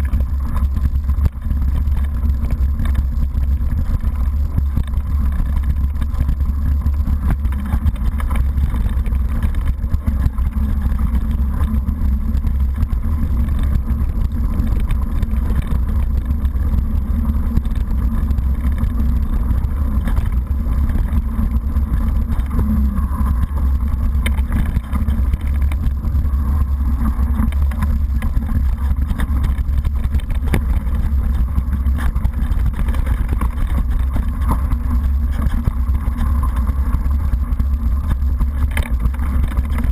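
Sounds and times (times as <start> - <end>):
bike rattling over bumps: 0.0 - 39.9
wind and ground rumble: 0.0 - 39.9.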